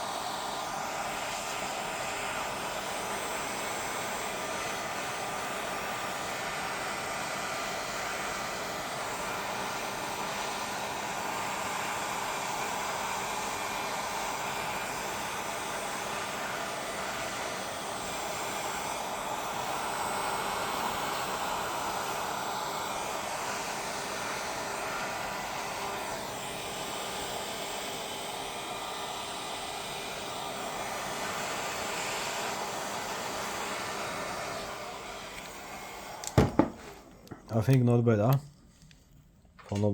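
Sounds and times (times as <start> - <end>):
hot-air blower running: 0.0 - 38.4.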